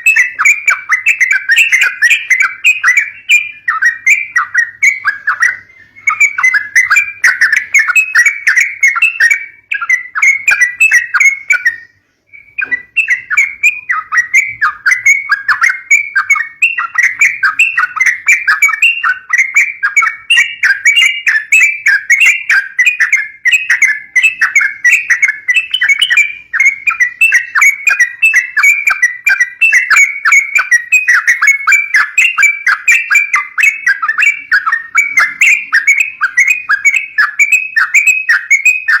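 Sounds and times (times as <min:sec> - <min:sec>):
bird chattering call: 0:00.0 - 0:39.0.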